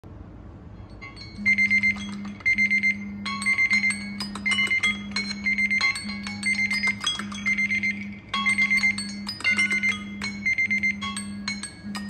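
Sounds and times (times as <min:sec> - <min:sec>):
melodic ringtone: 0:00.9 - 0:12.0
high alarm beeps: 0:01.3 - 0:12.0.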